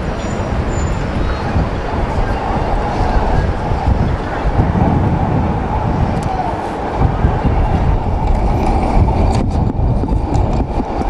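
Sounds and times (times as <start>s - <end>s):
heavy road vehicle running: 0.0s - 11.0s
low rumble of street traffic: 0.0s - 11.0s.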